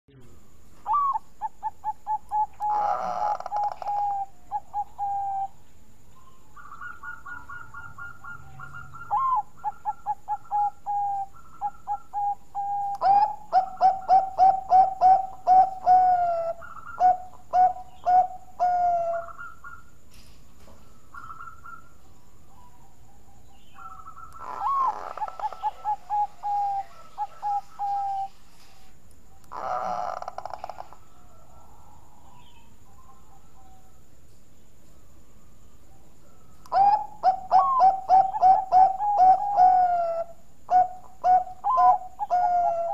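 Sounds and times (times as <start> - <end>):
dove cooing: 0.8 - 5.6, 6.2 - 20.0, 20.8 - 28.9, 29.5 - 34.0, 36.2 - 42.9.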